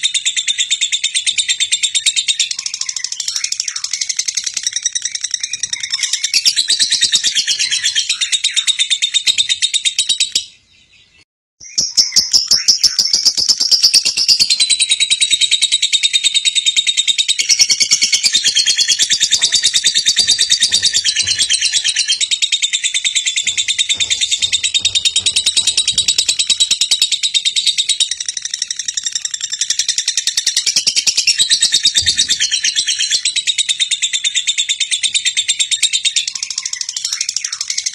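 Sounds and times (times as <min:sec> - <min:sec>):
lovebird chirping: 0:00.1 - 0:34.8.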